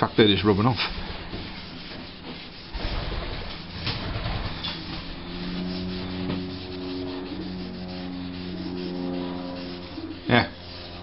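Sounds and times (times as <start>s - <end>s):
scouring pad scrubbing metal: 0.0s - 11.0s.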